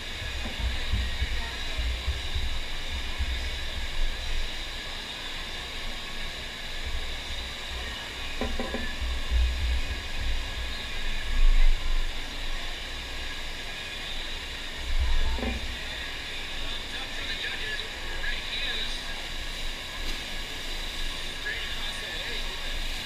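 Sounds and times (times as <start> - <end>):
water rushing over wave bed: 0.0 - 23.0.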